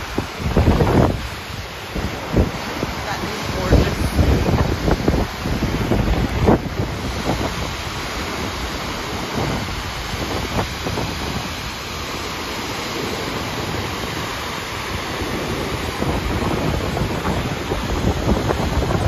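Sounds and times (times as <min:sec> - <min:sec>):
waterfall rushing: 0:00.0 - 0:19.0
wind buffeting microphone: 0:00.0 - 0:19.0.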